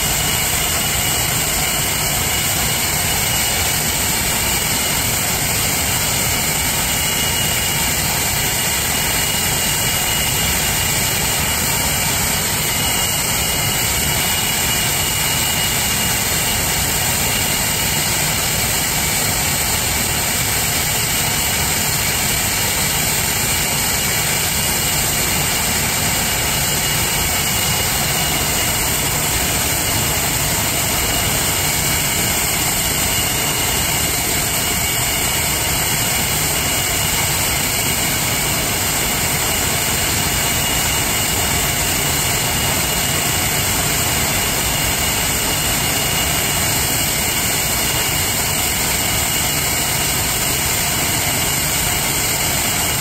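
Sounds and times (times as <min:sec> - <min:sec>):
jet engines idling: 0:00.0 - 0:53.0.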